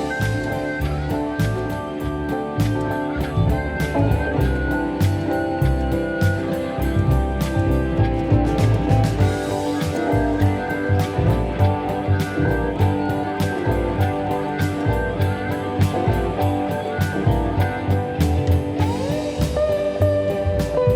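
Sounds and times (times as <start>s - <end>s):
blues guitar music: 0.0s - 20.9s
drum beat: 0.0s - 20.9s.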